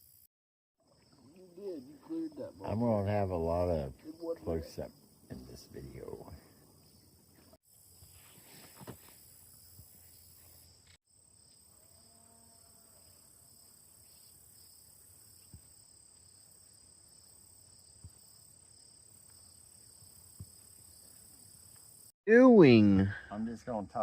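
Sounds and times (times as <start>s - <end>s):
insects chorus: 0.0s - 22.1s.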